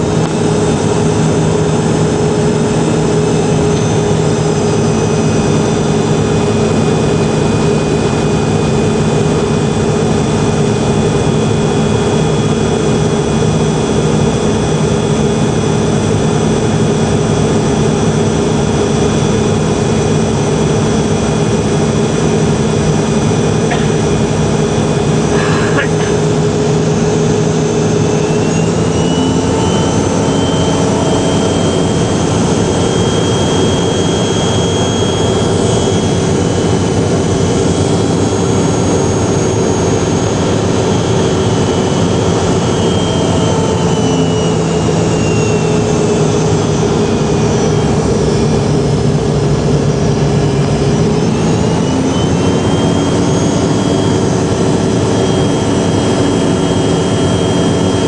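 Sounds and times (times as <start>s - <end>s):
jet engines in cabin: 0.0s - 58.0s.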